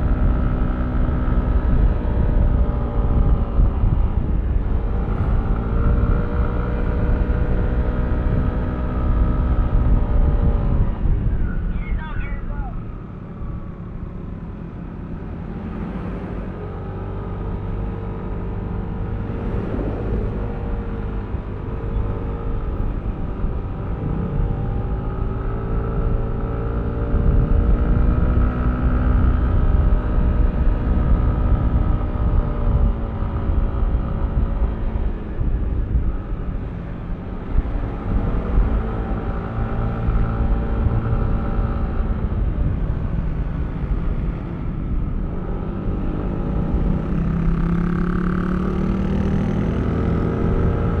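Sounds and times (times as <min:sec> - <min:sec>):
road and wind rumble: 0:00.0 - 0:51.0.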